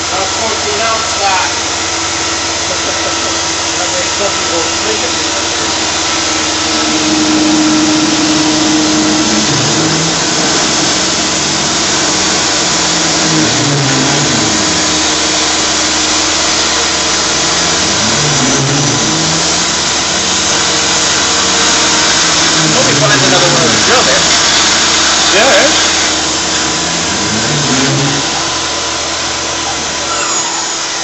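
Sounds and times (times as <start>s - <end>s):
mill spindle milling plastic: 0.0s - 31.0s
shop vacuum running: 0.0s - 31.0s.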